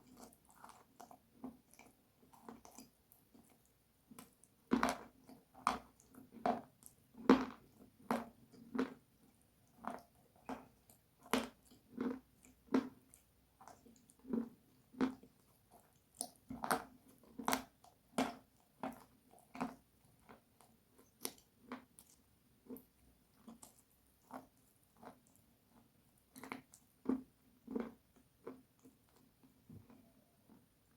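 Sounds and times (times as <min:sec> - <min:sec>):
person chewing crunchy food: 0:00.0 - 0:30.9.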